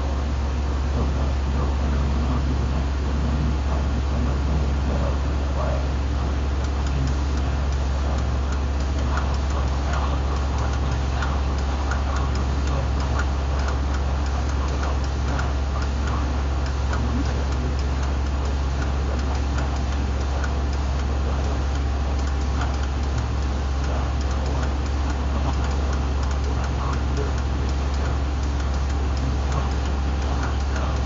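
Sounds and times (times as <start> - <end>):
vibration test table humming: 0.0 - 31.0.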